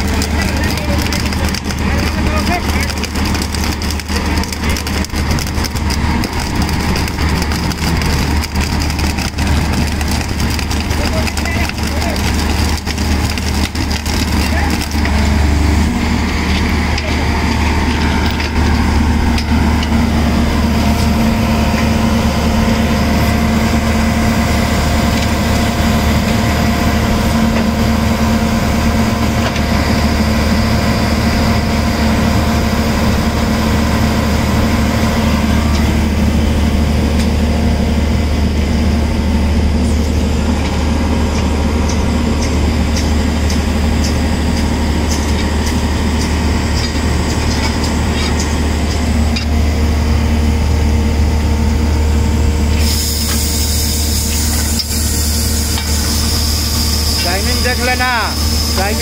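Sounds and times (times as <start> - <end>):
welding rig power unit hum: 0.0 - 59.0.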